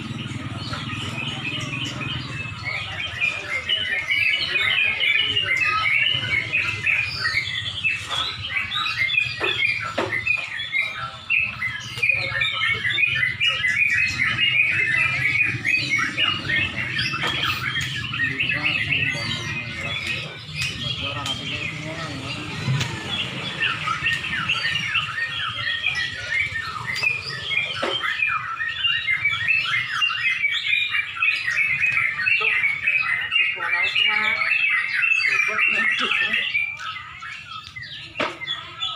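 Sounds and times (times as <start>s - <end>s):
bulbuls singing: 0.0s - 38.9s.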